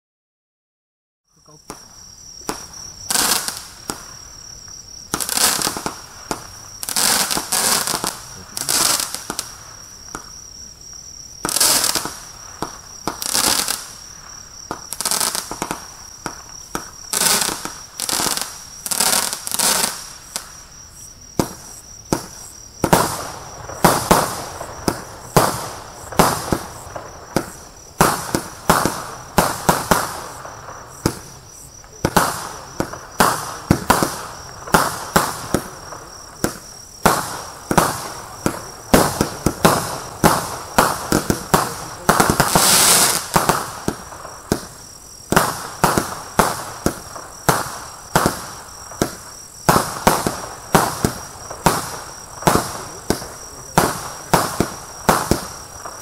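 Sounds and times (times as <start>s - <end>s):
hissing firework burst: 1.4s - 10.8s, 11.4s - 56.0s
fireworks crackle: 1.4s - 56.0s
fireworks launching bangs: 1.4s - 56.0s.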